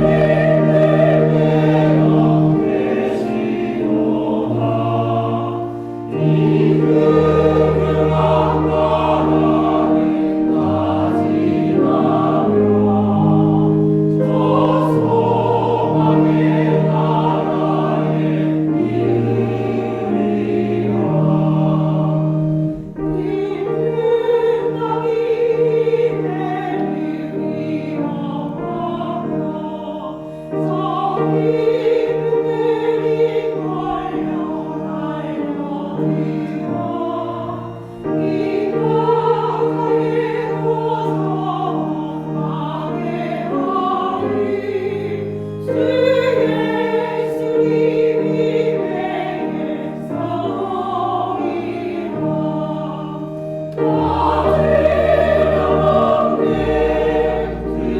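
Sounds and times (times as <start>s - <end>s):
choir singing a hymn: 0.0s - 57.9s
piano: 0.0s - 57.9s
pipe organ: 0.0s - 57.9s.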